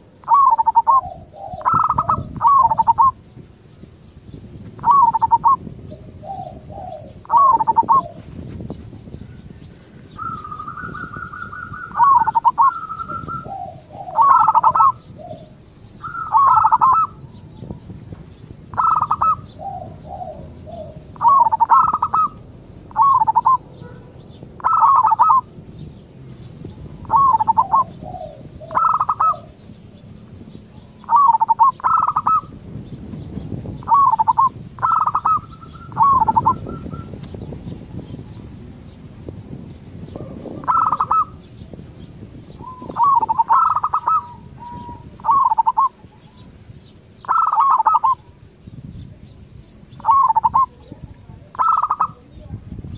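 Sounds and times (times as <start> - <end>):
dove cooing: 0.0 - 3.8, 4.7 - 25.9, 26.6 - 48.4, 49.9 - 52.4.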